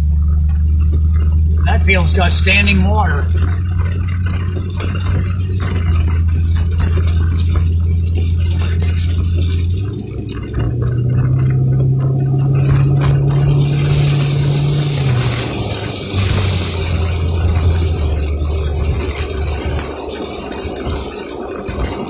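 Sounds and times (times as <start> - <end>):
rain spattering on vehicle: 0.0 - 22.0
vehicle engine droning: 0.0 - 22.0.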